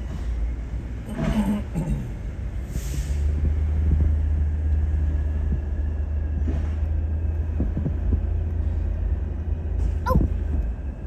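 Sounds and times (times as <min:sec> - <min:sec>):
garbage truck diesel engine rumble: 0:00.0 - 0:11.0.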